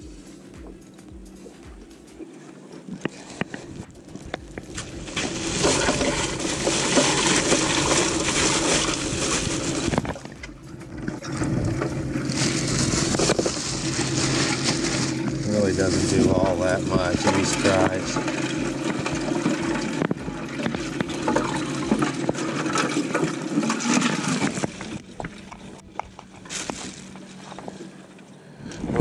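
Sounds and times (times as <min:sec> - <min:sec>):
water rushing and splashing: 0:00.0 - 0:28.0.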